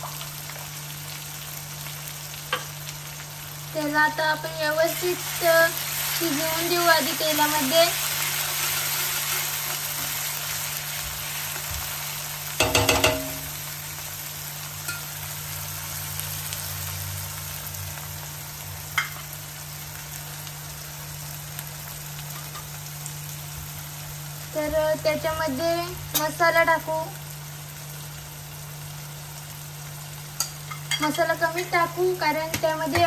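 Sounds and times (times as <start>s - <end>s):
paste sizzling in hot oil: 0.0s - 33.0s.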